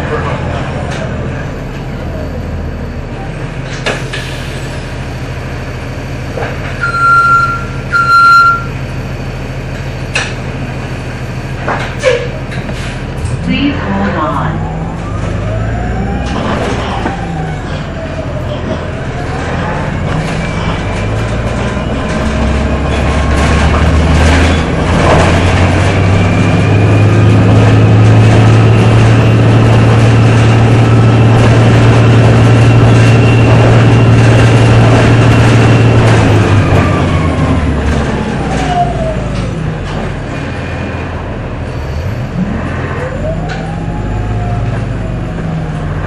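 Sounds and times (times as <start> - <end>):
bus engine drone: 0.0 - 46.0.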